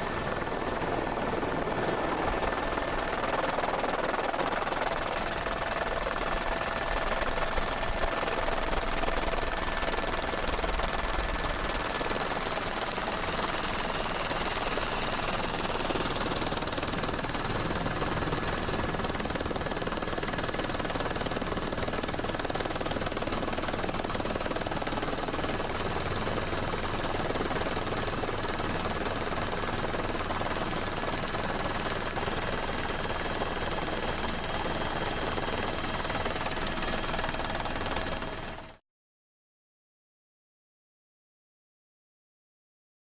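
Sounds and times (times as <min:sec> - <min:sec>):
helicopter engine and rotor drone: 0:00.0 - 0:38.8.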